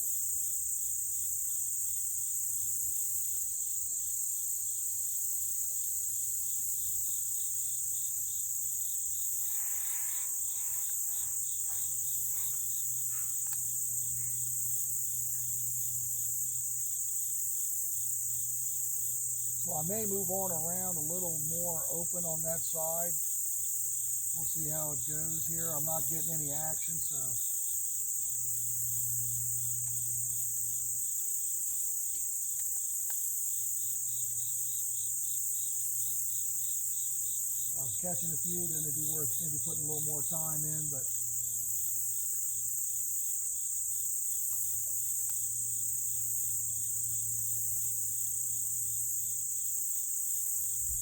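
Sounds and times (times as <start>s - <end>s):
insect chirping pulse: 0.0s - 51.0s
insects buzzing high-pitched: 0.0s - 51.0s.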